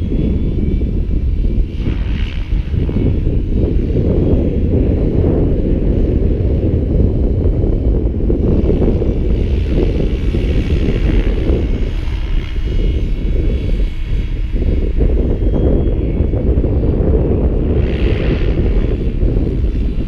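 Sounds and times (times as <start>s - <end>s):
distant rc helicopter whine: 0.0s - 20.0s
wind buffeting microphone: 0.0s - 20.0s.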